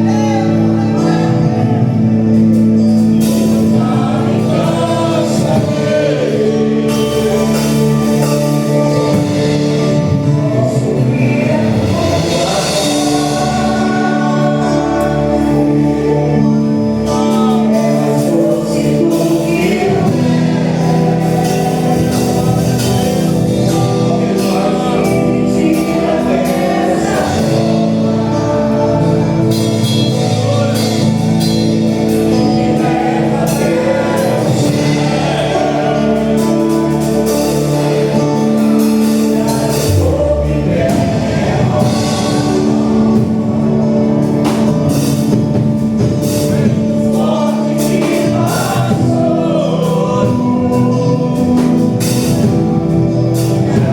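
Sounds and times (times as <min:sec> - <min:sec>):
band playing: 0:00.0 - 0:53.9
people singing gospel: 0:00.0 - 0:53.9
steady drum beats: 0:00.0 - 0:53.9.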